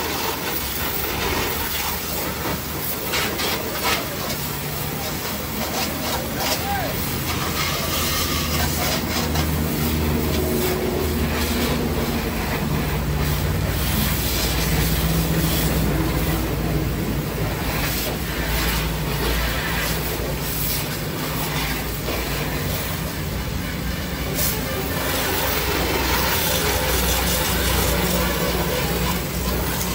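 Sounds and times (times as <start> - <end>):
high-pressure water jet spraying: 0.0 - 29.9
pump motor humming: 0.0 - 29.9.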